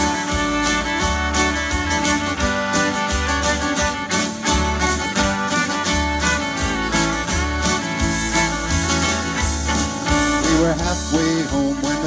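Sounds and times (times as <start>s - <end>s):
lively fiddle playing: 0.0s - 12.0s
strummed acoustic guitar: 0.0s - 12.0s.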